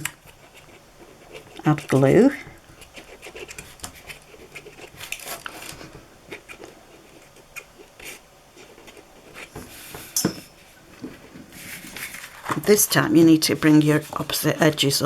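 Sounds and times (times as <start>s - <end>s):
paper rustling and scraping: 0.0s - 10.2s, 10.9s - 15.0s.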